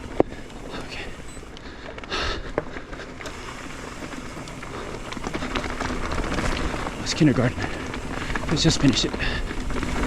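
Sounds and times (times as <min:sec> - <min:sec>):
bike clicks and rattles: 0:00.0 - 0:10.0
bike tyres crackling over gravel: 0:00.0 - 0:10.0.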